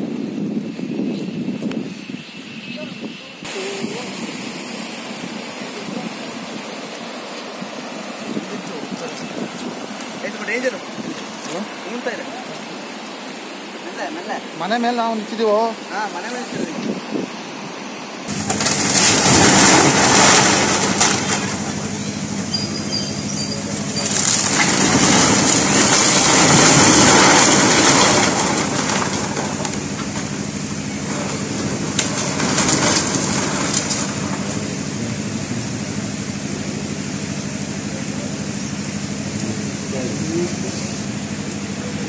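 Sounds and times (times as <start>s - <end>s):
house collapsing into floodwater: 3.4s - 16.0s, 18.3s - 41.9s.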